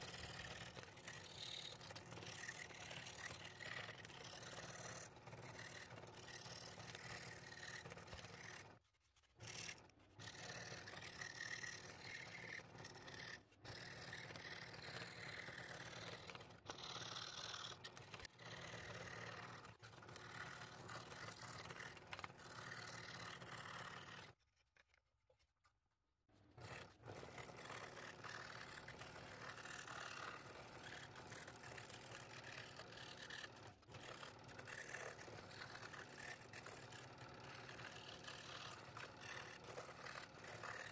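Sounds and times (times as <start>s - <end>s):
scroll saw cutting wood: 0.0s - 24.4s, 26.4s - 40.9s.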